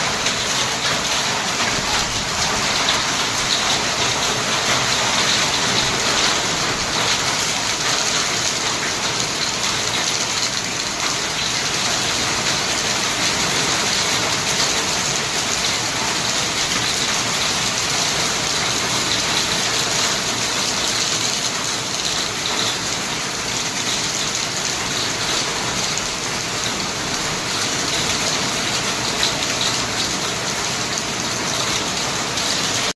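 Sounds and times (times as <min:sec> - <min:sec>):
hail and rain falling hard: 0:00.0 - 0:32.9.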